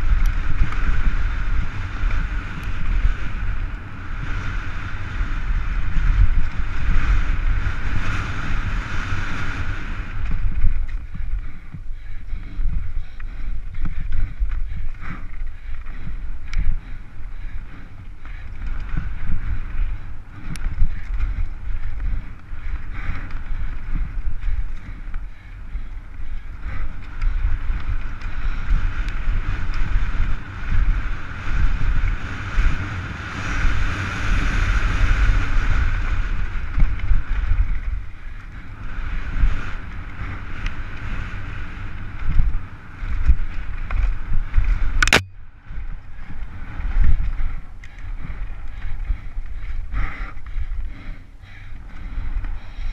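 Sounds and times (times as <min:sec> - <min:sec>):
bike tyres hissing over dirt: 0:00.0 - 0:52.9
wind buffeting microphone: 0:00.0 - 0:52.9.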